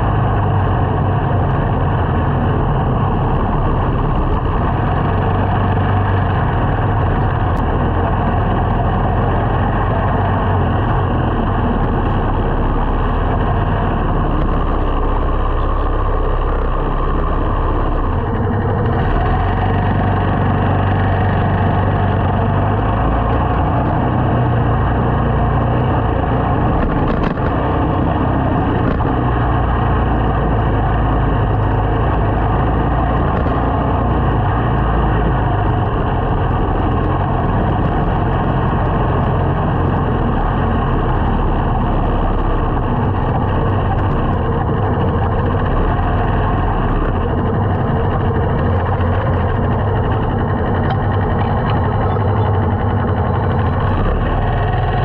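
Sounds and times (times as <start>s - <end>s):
motorcycle engine running: 0.0s - 55.0s
road noise: 0.0s - 55.0s.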